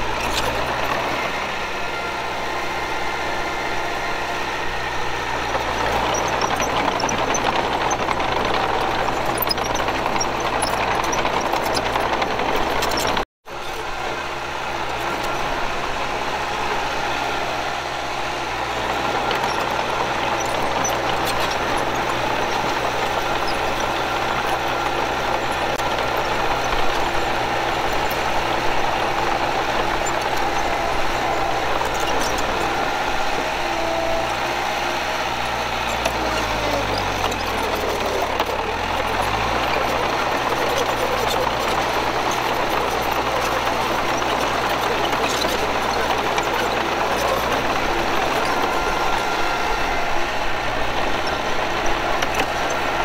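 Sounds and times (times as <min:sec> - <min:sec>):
diesel earthmoving machinery running: 0:00.0 - 0:53.0.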